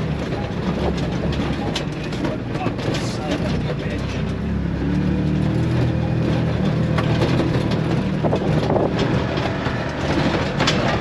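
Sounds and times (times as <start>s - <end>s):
vehicle engine running: 0.0s - 11.0s
vehicle rattles and knocks: 0.0s - 11.0s.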